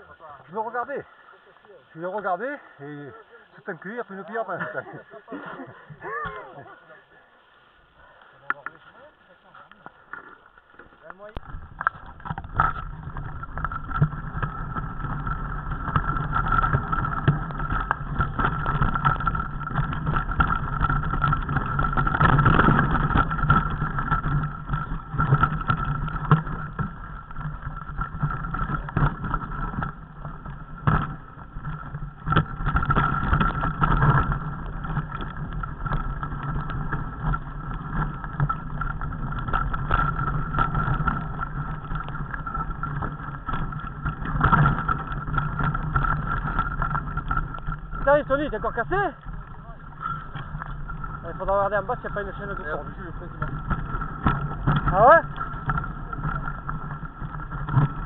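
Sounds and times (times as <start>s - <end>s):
bike knocking and rattling over stones: 0.0s - 6.8s, 8.0s - 58.0s
bike rolling rumble: 0.0s - 58.0s.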